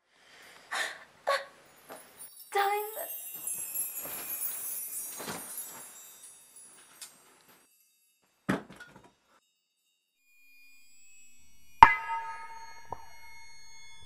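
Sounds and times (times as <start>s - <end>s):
glittering chime shimmer: 1.5s - 8.5s, 9.1s - 14.0s.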